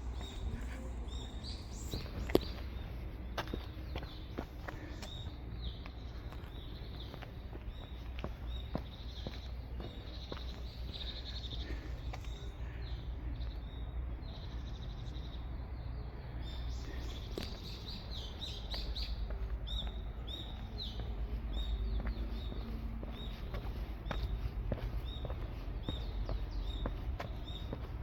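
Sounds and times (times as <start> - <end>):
songbirds chirping: 0.0 - 28.0
steady low rumble: 0.0 - 28.0.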